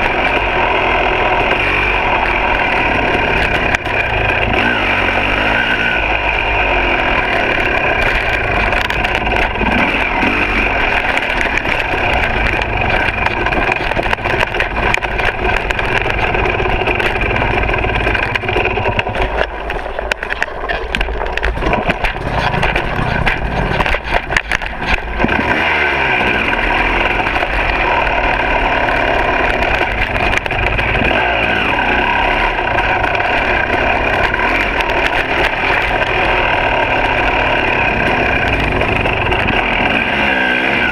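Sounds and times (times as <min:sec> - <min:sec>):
knocks and rattles from bike: 0:00.0 - 0:40.9
two-stroke dirt bike engine: 0:00.0 - 0:40.9.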